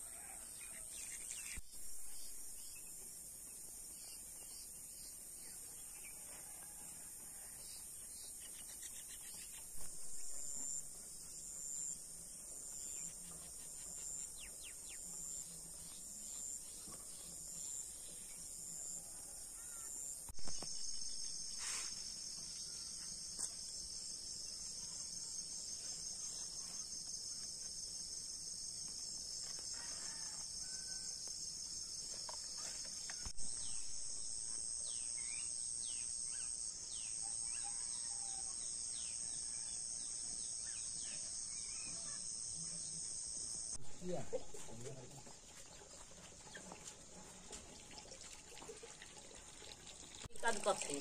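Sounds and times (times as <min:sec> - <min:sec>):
insects chirring: 0:07.6 - 0:51.0.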